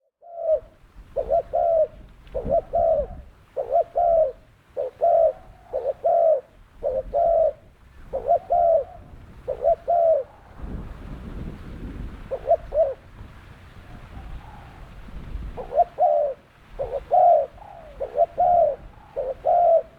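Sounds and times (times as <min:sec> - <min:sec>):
dove cooing: 0:00.0 - 0:13.2, 0:13.8 - 0:19.9.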